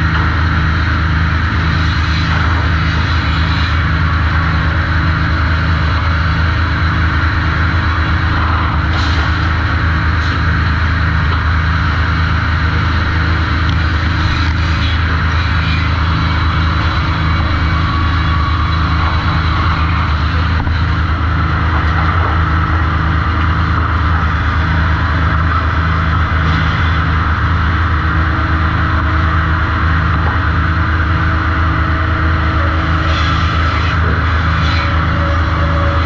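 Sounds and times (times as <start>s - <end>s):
sawmill machinery drone: 0.0s - 36.0s.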